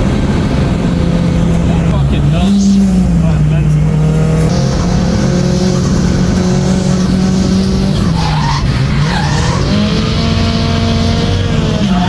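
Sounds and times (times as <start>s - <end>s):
car engine at high revs: 0.0s - 12.0s
tyres squealing: 1.3s - 12.0s.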